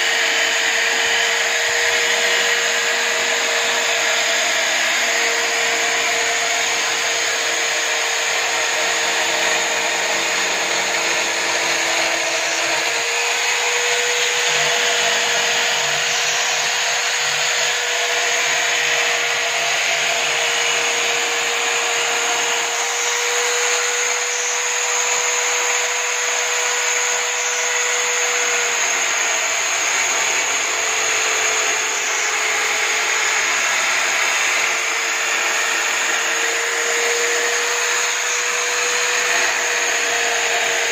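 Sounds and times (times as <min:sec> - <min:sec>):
drill motor whine: 0:00.0 - 0:40.9.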